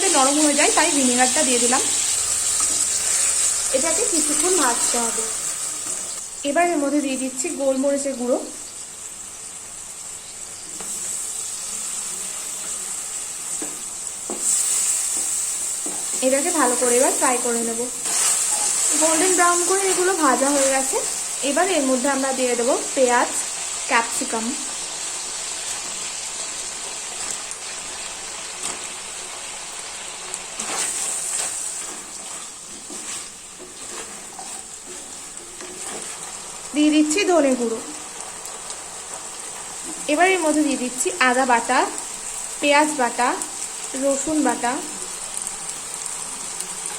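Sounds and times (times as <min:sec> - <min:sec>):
chicken sizzling in frying pan: 0:00.0 - 0:46.9.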